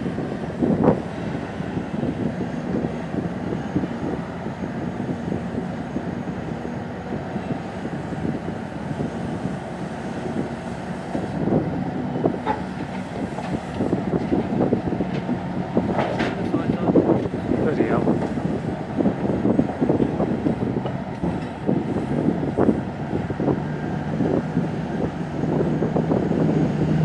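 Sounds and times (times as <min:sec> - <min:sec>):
heavy diesel engines humming: 0:00.0 - 0:27.0.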